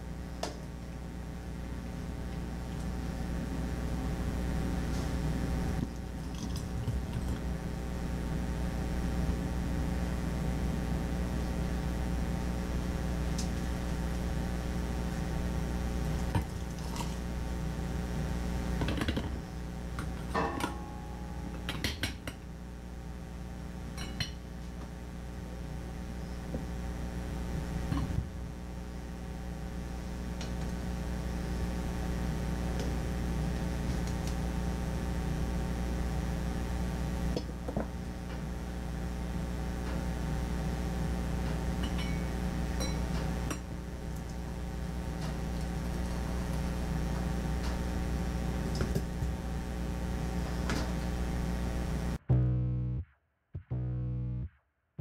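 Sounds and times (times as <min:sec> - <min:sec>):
low hum: 0:00.0 - 0:54.7.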